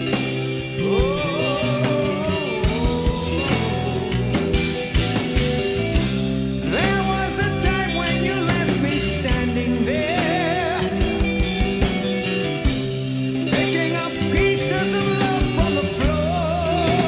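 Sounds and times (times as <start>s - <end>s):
rock music with electric guitars: 0.0s - 17.0s.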